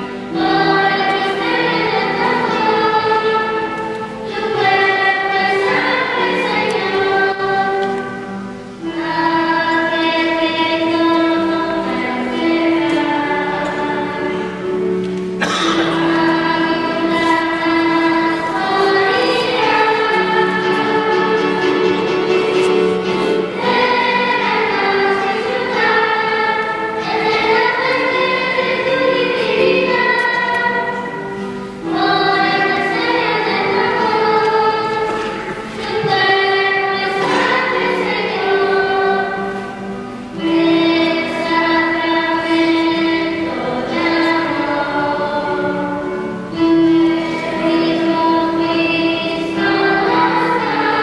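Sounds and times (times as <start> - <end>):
choir singing a hymn: 0.0 - 51.0.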